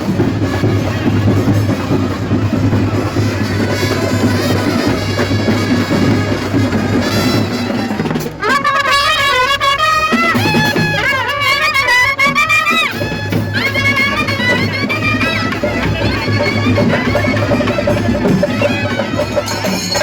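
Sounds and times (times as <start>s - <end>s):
drums and brass music: 0.0s - 20.0s
wavering wind instrument melody: 0.0s - 20.0s.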